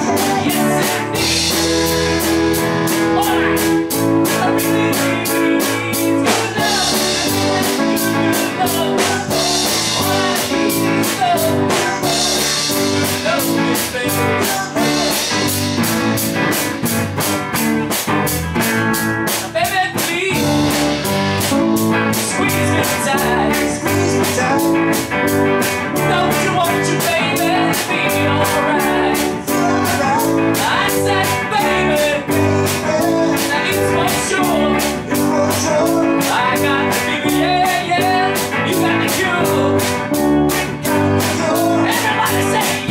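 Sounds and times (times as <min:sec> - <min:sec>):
man singing into a microphone: 0:00.0 - 0:02.2, 0:02.9 - 0:15.8, 0:19.3 - 0:21.1, 0:21.9 - 0:25.2, 0:25.9 - 0:42.9
drum kit beat: 0:00.0 - 0:42.9
electric guitar: 0:00.0 - 0:42.9.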